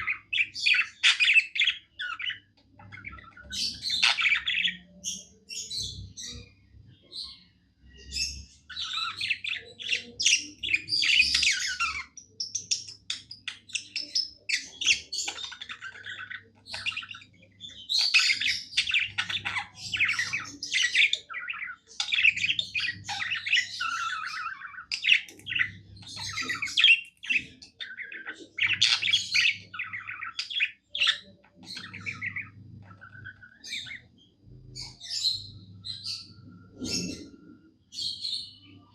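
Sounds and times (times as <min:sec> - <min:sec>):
budgerigar chirping and squawking: 0:00.0 - 0:06.6, 0:08.1 - 0:37.4.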